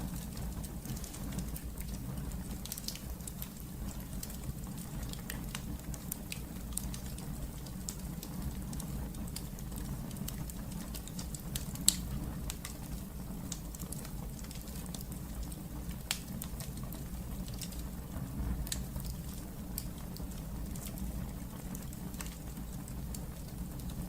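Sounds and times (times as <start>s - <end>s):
fire crackles: 0.0s - 24.0s
low rumble of flames: 0.0s - 24.0s.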